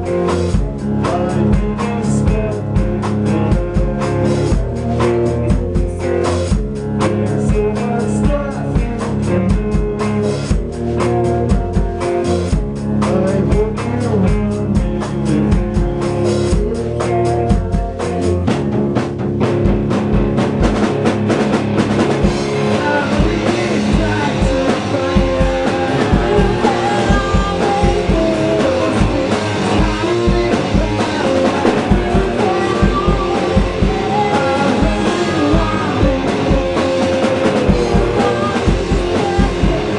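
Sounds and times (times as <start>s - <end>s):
man singing: 0.0s - 18.7s, 22.4s - 39.9s
drum kit beat: 0.0s - 39.9s
electric guitar: 0.0s - 39.9s.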